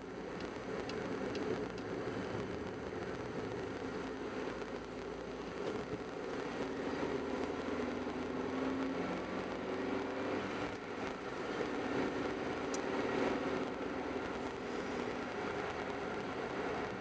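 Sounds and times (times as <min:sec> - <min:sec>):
car engine drone: 0:00.0 - 0:17.0
tyre and road noise: 0:00.0 - 0:17.0.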